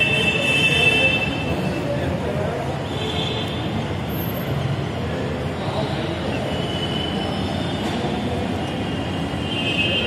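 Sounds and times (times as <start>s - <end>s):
indistinct crowd chatter: 0.0s - 10.0s.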